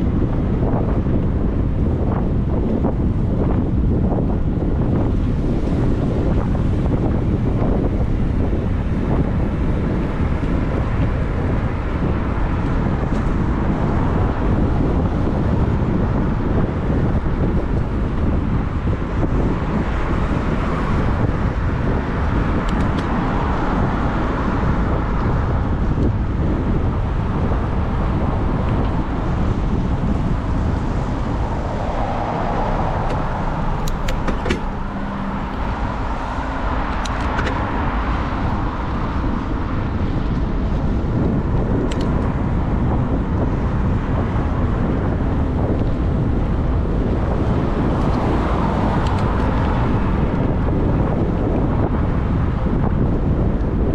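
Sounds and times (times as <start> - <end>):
cars passing: 0.0 - 53.8
road traffic: 0.0 - 53.9
wind rumble on microphone: 0.0 - 53.9.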